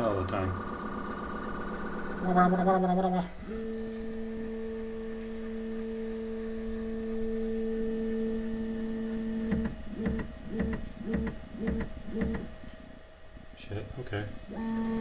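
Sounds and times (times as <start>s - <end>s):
stepper motors humming a tone: 0.0s - 15.0s.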